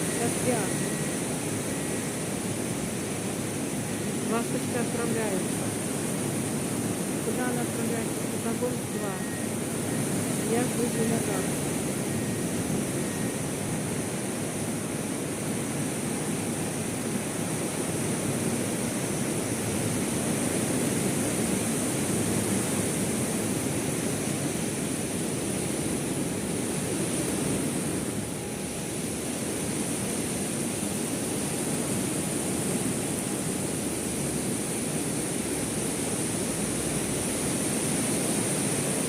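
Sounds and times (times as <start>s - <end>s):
heavy rain pouring: 0.0s - 39.0s.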